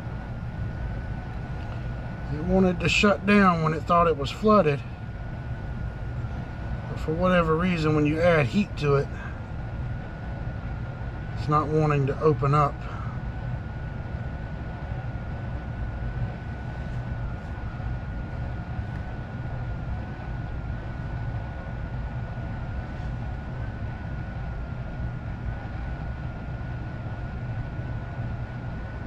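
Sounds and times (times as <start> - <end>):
air handler blower rushing: 0.0 - 29.0.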